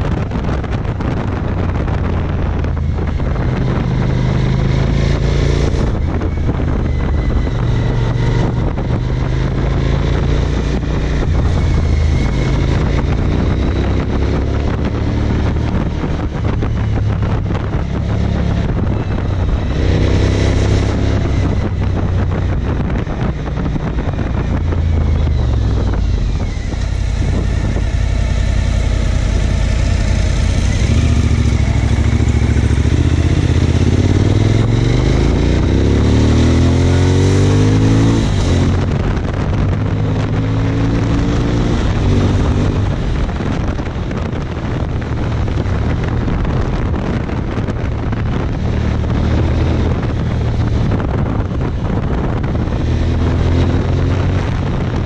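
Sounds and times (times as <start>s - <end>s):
motorcycle engine: 0.0s - 55.0s
wind rushing over microphone: 0.0s - 55.0s.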